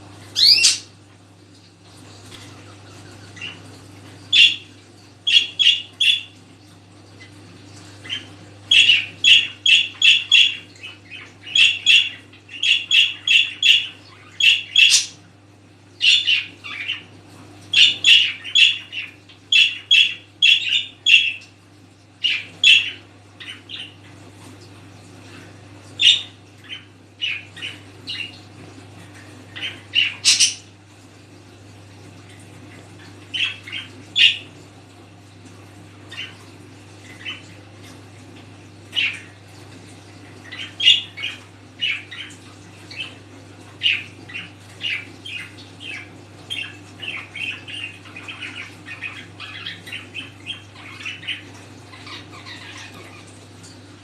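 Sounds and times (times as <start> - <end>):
pet birds squawking: 0.3 - 1.0, 2.2 - 6.4, 7.1 - 15.3, 16.0 - 21.5, 22.2 - 24.3, 25.2 - 30.8, 32.8 - 34.6, 36.0 - 38.0, 38.8 - 54.0.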